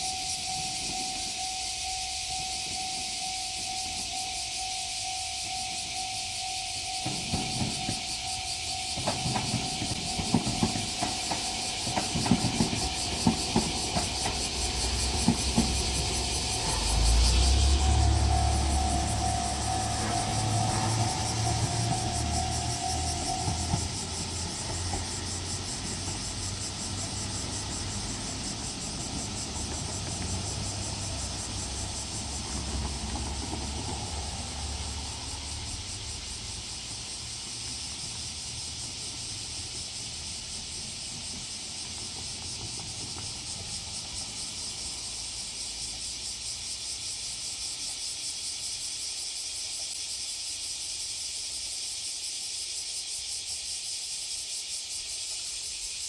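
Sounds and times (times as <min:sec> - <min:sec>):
diesel railcar engine rumbling: 0:00.0 - 0:49.8
cicadas buzzing: 0:00.0 - 0:56.0.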